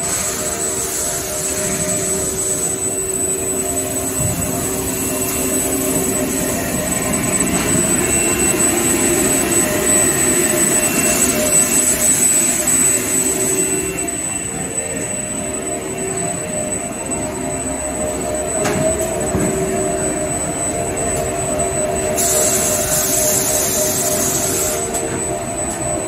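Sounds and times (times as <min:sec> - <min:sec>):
thin high whine: 0:00.0 - 0:26.0.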